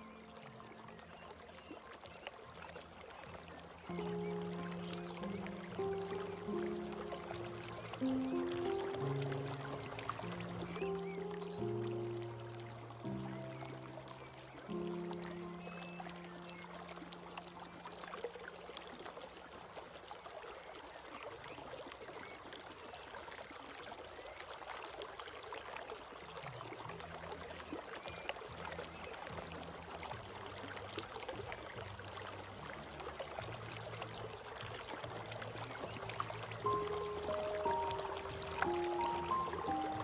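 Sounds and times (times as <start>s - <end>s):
soft low held music notes: 0.0s - 19.0s, 26.3s - 40.0s
stream babbling and trickling: 0.0s - 40.0s.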